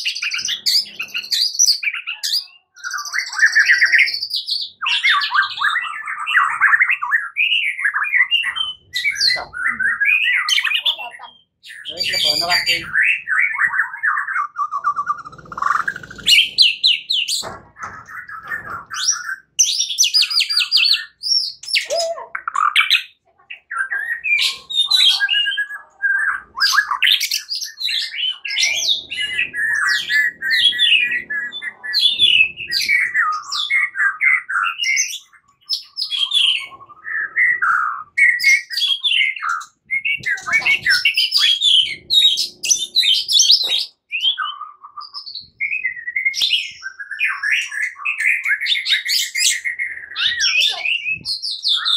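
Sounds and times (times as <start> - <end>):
bird singing whistles and trills: 0.0 - 17.4, 18.2 - 51.9.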